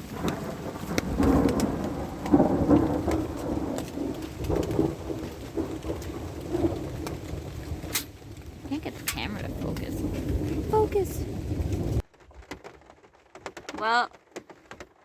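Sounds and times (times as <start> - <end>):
thunder rumbling: 0.0 - 12.1
rain ticking on metal roof: 0.0 - 15.0.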